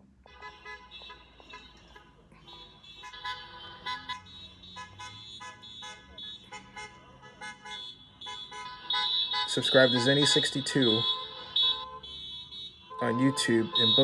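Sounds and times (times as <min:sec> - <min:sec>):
many car horns honking: 0:00.0 - 0:14.0.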